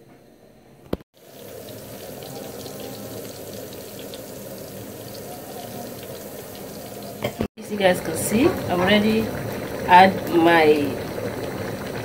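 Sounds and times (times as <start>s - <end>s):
oil and onions sizzling: 1.1s - 12.0s.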